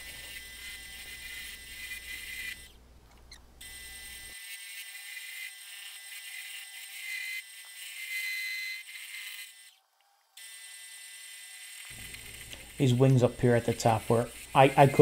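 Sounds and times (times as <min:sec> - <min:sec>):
gouge cutting spinning wood: 0:00.0 - 0:02.8, 0:03.6 - 0:09.8, 0:10.4 - 0:15.0
wood lathe whining: 0:00.0 - 0:15.0.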